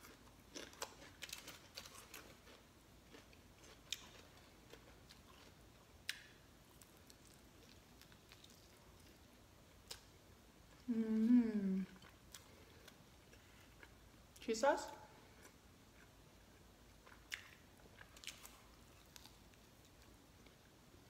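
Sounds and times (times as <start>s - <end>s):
faint chewing: 0.0s - 14.0s, 15.2s - 20.7s.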